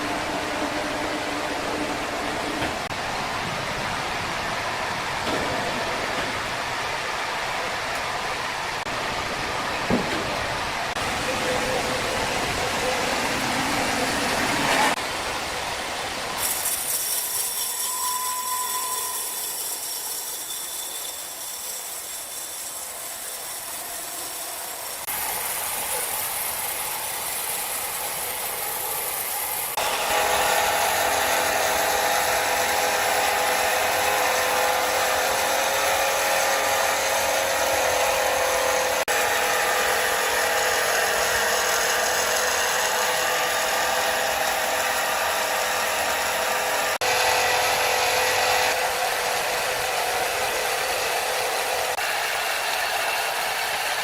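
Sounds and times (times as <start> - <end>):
loud machine hum: 0.0 - 16.5, 22.2 - 54.0
sawmill machinery running: 0.0 - 54.0.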